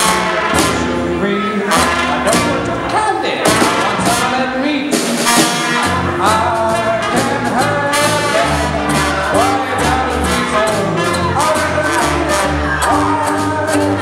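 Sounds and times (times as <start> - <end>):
snare drum: 0.0 - 1.0, 1.7 - 2.7, 3.4 - 14.0
man singing: 0.0 - 14.0
plucked double bass: 0.0 - 14.0
trombone: 0.0 - 14.0
trumpet: 0.0 - 14.0.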